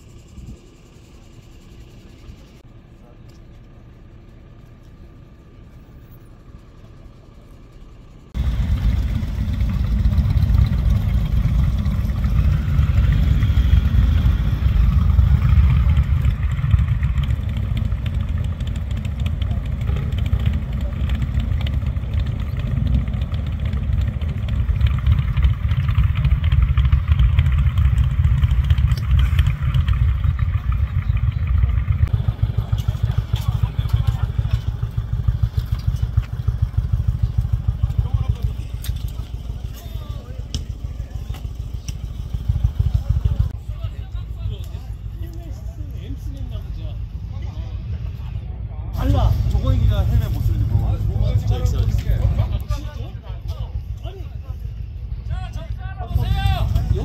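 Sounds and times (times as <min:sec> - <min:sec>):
motorcycle engines rumbling: 0:00.0 - 0:57.0.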